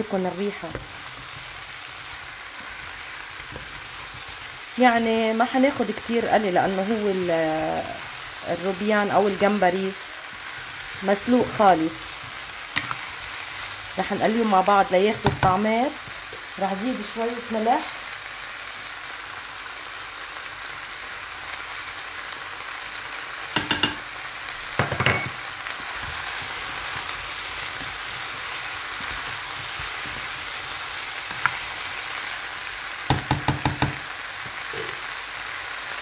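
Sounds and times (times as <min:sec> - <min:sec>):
shrimp sizzling in a frying pan: 0:00.0 - 0:36.0.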